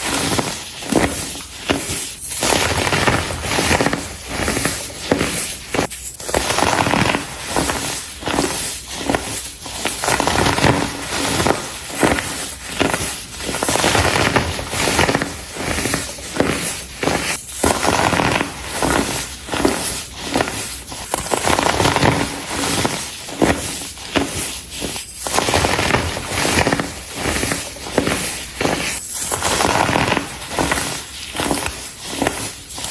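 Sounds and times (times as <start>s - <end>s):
dried baking soda crunching: 0.0s - 32.9s.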